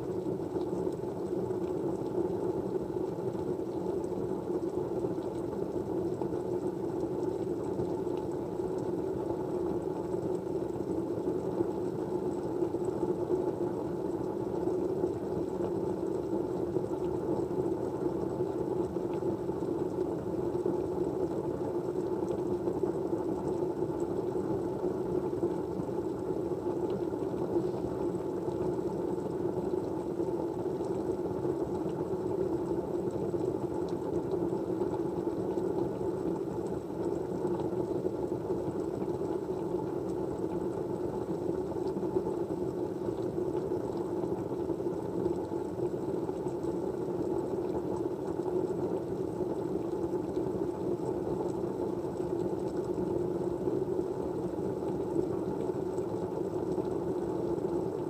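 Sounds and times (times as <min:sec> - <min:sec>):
muffled white noise hiss: 0:00.0 - 0:58.0.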